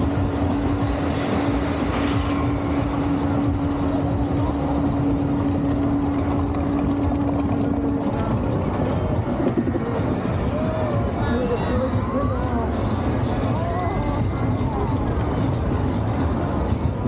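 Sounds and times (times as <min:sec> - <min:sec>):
roller coaster rumbling: 0:00.0 - 0:17.0.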